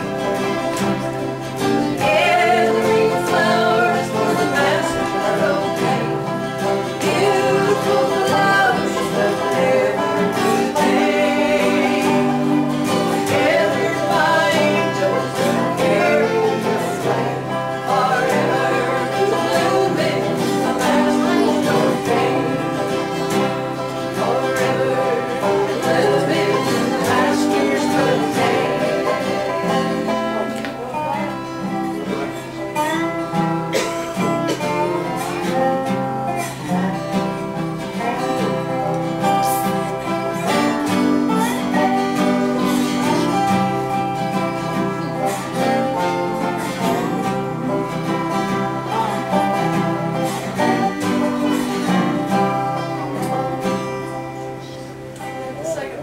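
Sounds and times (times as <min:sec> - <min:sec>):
acoustic guitars: 0:00.0 - 0:56.0
banjo: 0:00.0 - 0:56.0
resonator guitar sliding notes: 0:00.0 - 0:56.0.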